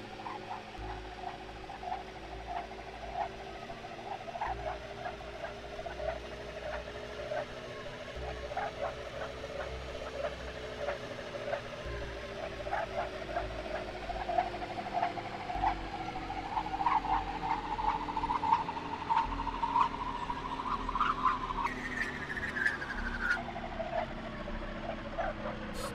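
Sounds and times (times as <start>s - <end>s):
low sustained drone tones: 0.0s - 25.9s.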